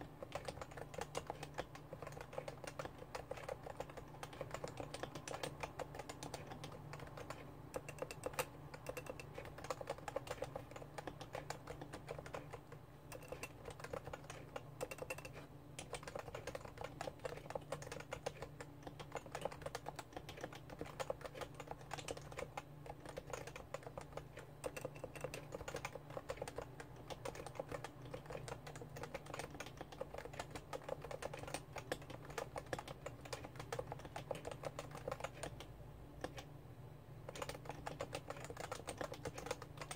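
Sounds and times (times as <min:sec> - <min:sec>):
keyboard typing: 0:00.0 - 0:36.5, 0:37.2 - 0:39.9.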